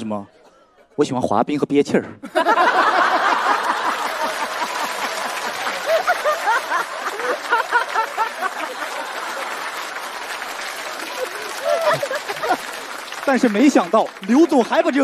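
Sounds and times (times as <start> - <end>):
audience laughing: 2.2 - 14.7
people clapping: 2.5 - 15.0.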